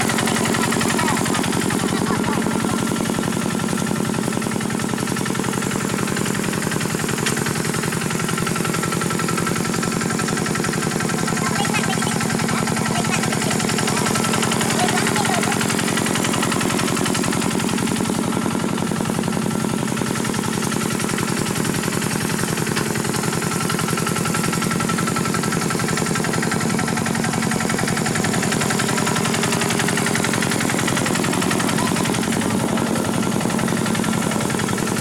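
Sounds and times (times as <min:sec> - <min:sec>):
tractor diesel engine chugging: 0:00.0 - 0:35.0.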